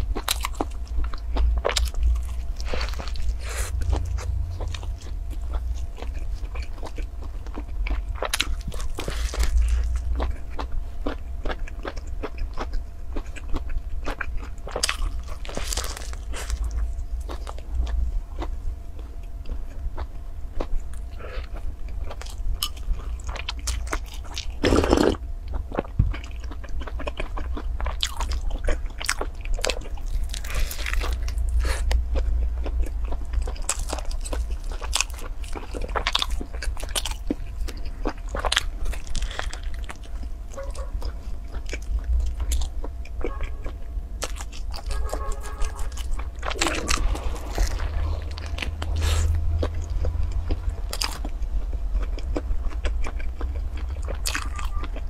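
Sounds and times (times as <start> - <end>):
crunchy bites and chewing: 0.0 - 55.0
steady low hum: 0.0 - 55.0.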